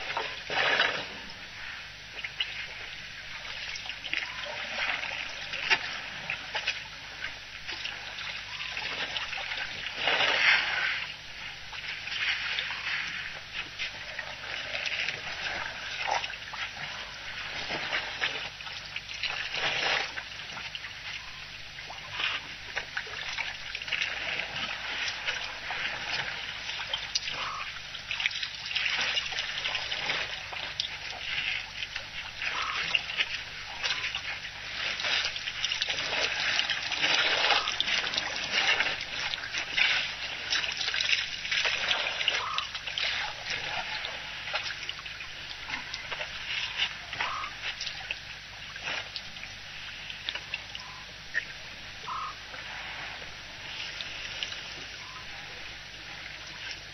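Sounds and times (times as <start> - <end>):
elephants splashing and slurping water: 0.0 - 56.9.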